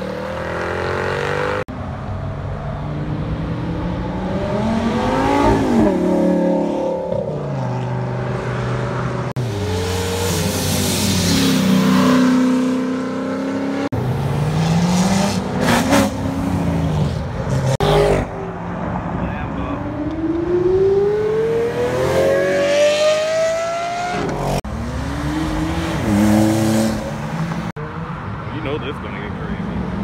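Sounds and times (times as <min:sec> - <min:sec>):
car engines accelerating hard: 0:00.0 - 0:30.0.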